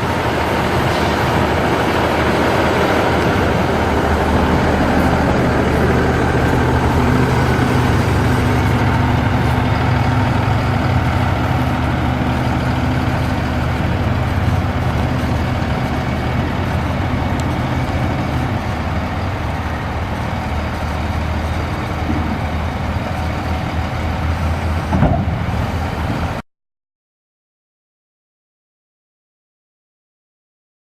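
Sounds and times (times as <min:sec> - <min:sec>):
diesel truck engine running: 0:00.0 - 0:26.4.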